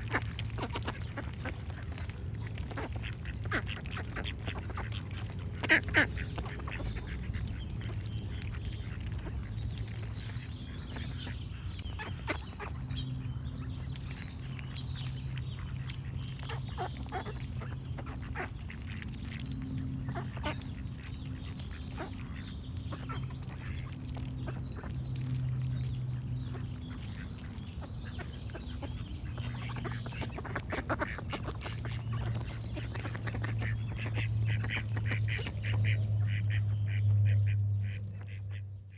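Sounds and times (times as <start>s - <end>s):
ducks quacking: 0.0s - 38.9s.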